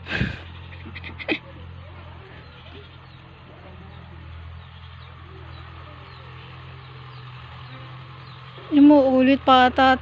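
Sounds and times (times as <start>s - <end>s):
tractor engine drone: 0.0s - 10.0s.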